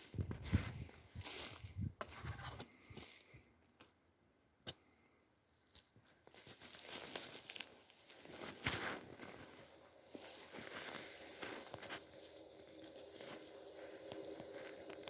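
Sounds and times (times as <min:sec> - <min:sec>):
leaves and twigs crunching: 0:00.0 - 0:03.3, 0:05.4 - 0:15.0.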